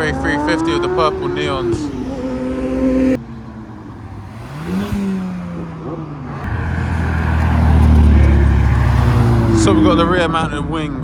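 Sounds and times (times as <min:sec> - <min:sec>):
car engine revving: 0:00.0 - 0:11.0
deep car engine approaching: 0:00.0 - 0:11.0.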